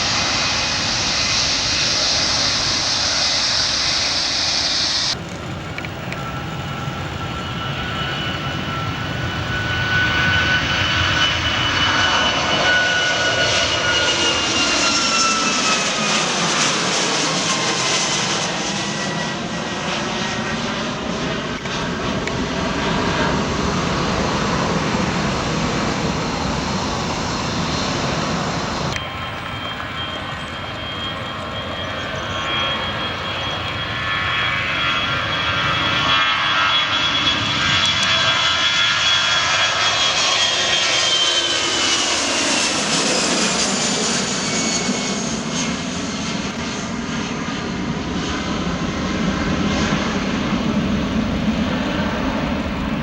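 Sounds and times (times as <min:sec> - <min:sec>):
jet airliner taking off: 0:00.0 - 0:53.0.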